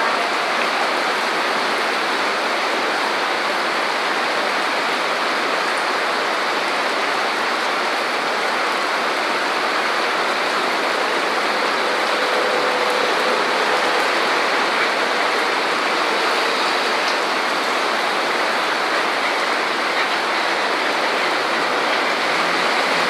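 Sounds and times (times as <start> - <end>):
heavy rain on pavement: 0.0 - 23.0.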